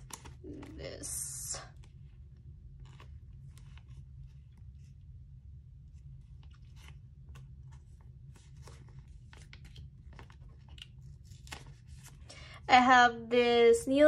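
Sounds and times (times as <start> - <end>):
plastic sleeves crinkling: 0.0 - 5.1, 5.8 - 12.3.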